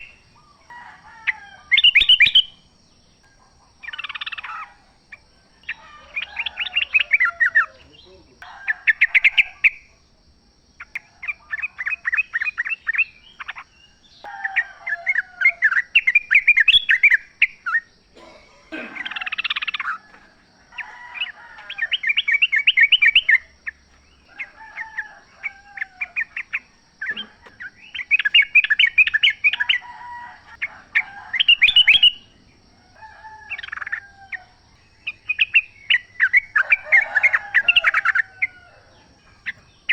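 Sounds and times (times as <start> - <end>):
bulbuls chattering calls: 0.0 - 32.6, 33.2 - 39.9.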